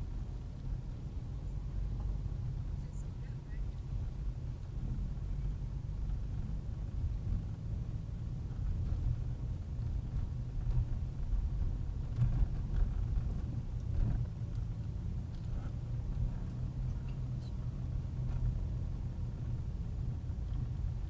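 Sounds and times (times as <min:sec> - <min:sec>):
car engine and tyre drone: 0:00.0 - 0:21.0.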